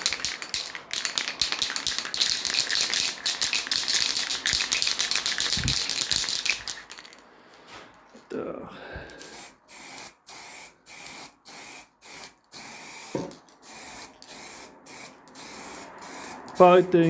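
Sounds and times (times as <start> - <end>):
spray paint can being shaken: 0.0 - 7.2, 9.2 - 17.0.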